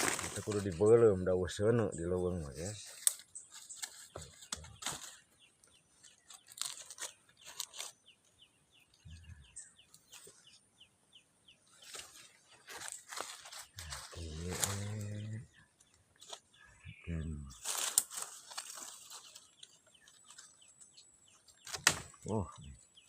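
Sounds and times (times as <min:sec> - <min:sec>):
faint crackling and crunching: 0:00.0 - 0:01.6, 0:02.4 - 0:10.6, 0:11.7 - 0:16.8, 0:17.4 - 0:22.8
bird chirping: 0:00.0 - 0:23.0.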